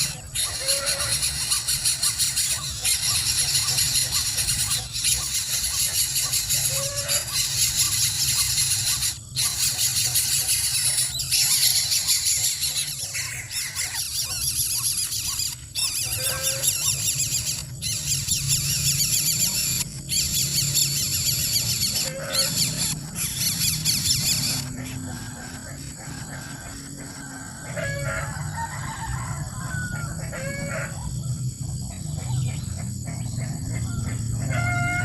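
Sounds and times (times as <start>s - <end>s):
high-pitched animal squealing: 0.0s - 28.4s, 33.8s - 35.0s.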